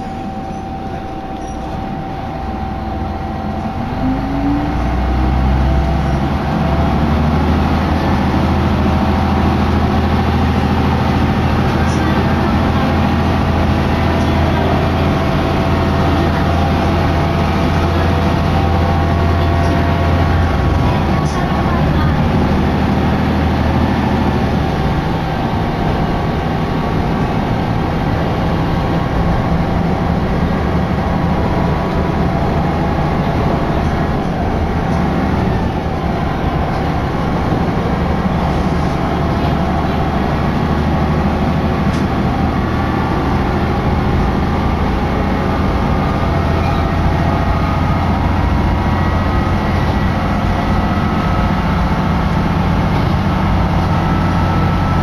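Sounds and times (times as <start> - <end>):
diesel railcar engine drone: 0.0 - 55.0
wheels rumbling on rails: 0.0 - 55.0.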